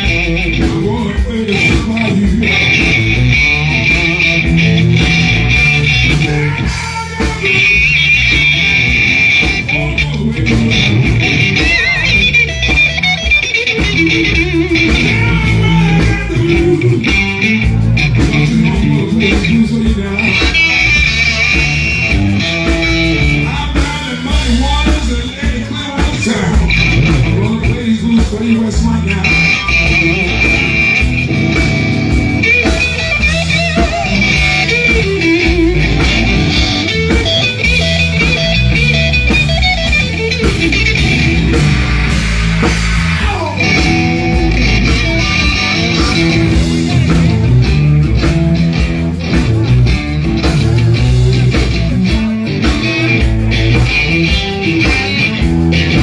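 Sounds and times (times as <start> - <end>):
blues band playing: 0.0 - 56.0
electric guitar leading: 0.0 - 56.0.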